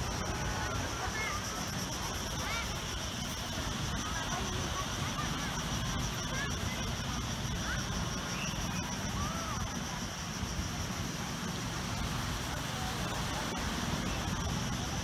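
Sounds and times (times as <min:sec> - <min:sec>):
faint high-pitched hum: 0:00.0 - 0:15.0.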